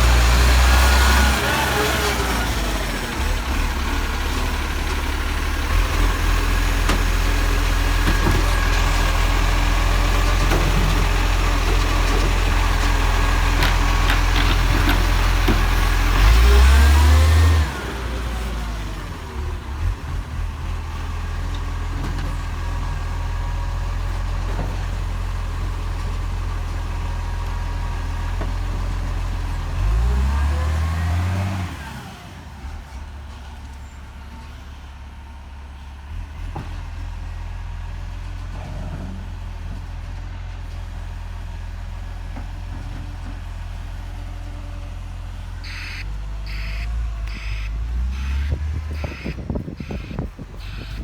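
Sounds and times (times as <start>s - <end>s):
garbage truck engine running: 0.0s - 51.0s.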